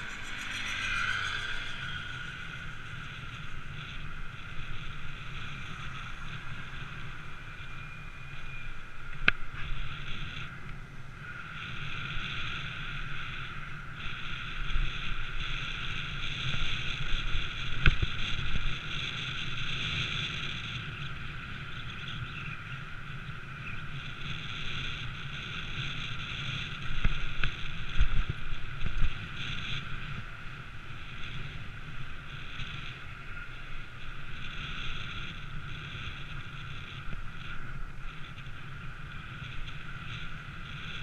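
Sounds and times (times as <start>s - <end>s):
road noise: 0.0s - 41.0s
wind rushing over microphone: 0.0s - 41.0s.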